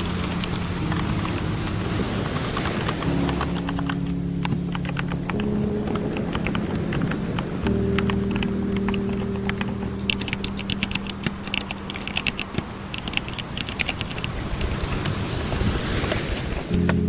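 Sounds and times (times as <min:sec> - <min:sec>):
low steady hum: 0:00.0 - 0:14.4
keyboard key clicks: 0:00.0 - 0:15.2.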